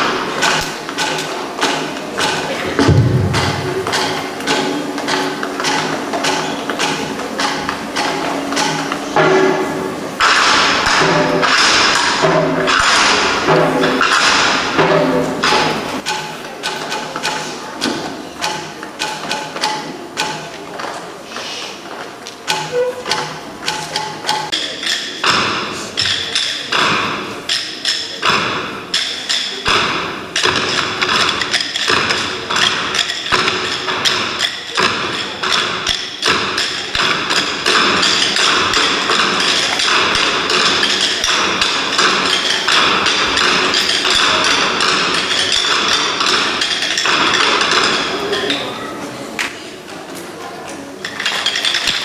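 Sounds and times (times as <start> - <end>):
percussion taps and thumps: 0.0 - 21.0, 21.9 - 48.6.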